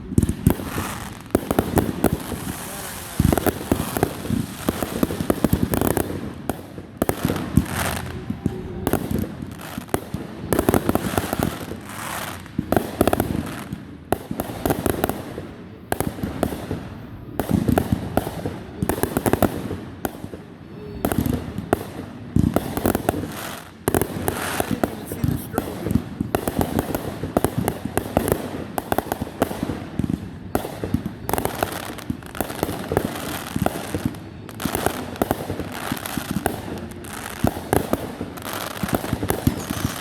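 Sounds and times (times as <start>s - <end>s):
fireworks bangs and pops: 0.0s - 40.0s.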